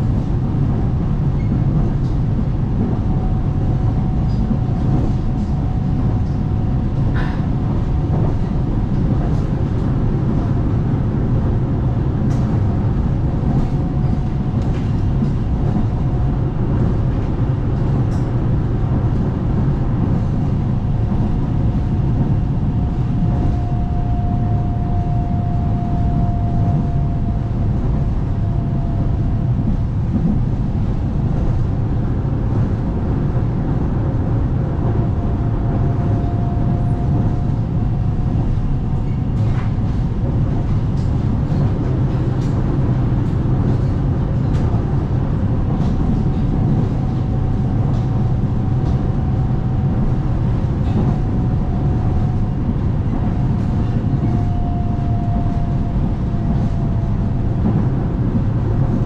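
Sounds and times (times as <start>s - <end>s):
faint train whine: 0.0s - 59.0s
train wheels rumbling on track: 0.0s - 59.0s.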